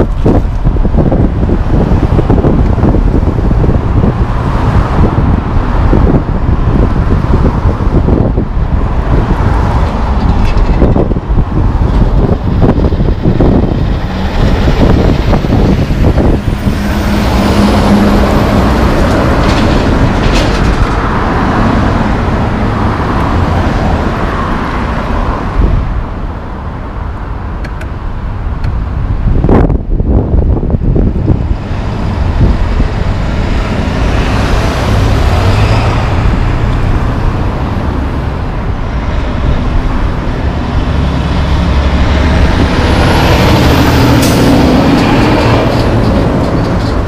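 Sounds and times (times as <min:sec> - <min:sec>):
road traffic: 0:00.0 - 0:47.0
truck engine humming: 0:00.0 - 0:47.0.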